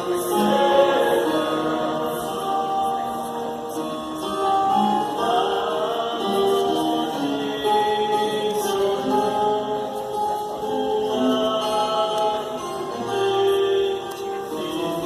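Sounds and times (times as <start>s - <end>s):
choir chanting held notes: 0.0s - 15.0s.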